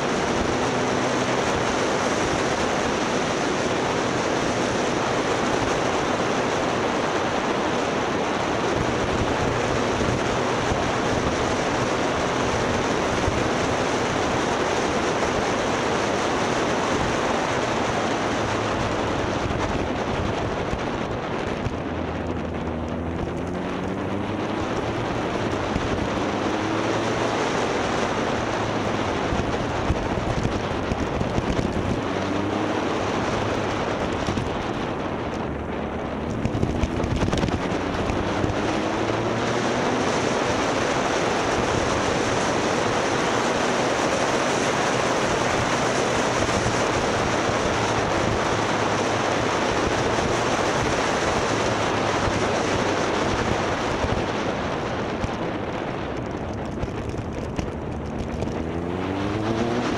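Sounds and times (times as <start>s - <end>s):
motorcycle engine accelerating: 0.0s - 59.9s
wind over microphone: 0.0s - 59.9s.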